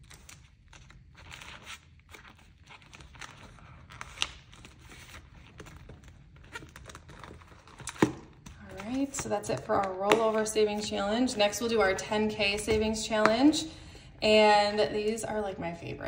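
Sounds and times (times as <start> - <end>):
plastic sheets rustling: 0.0 - 13.6.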